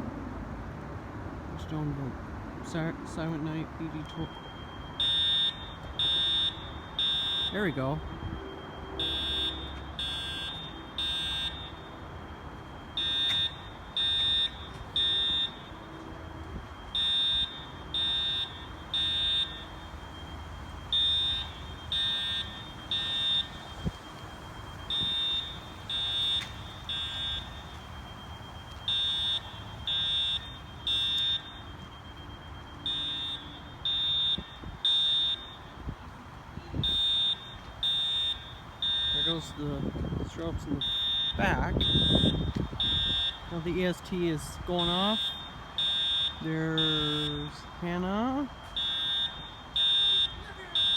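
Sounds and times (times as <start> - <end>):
fire alarm horn blasts: 2.7 - 50.9.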